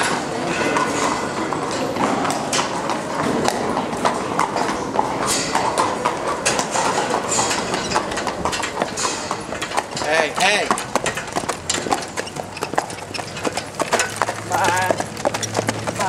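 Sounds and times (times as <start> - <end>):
background din: 0.0 - 16.0
hooves clopping on concrete: 0.0 - 16.0.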